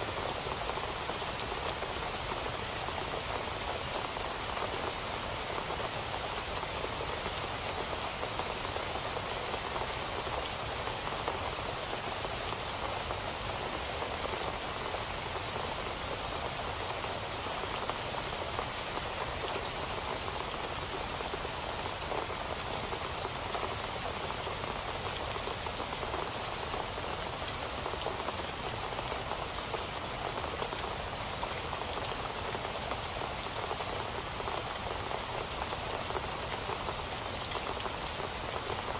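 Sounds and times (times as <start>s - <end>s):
rain falling on a surface: 0.0s - 38.9s.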